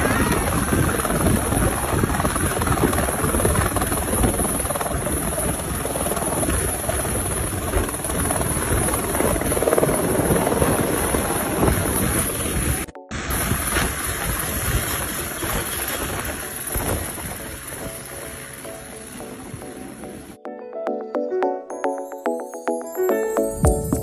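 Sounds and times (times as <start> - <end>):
helicopter rotor and engine: 0.0 - 20.4.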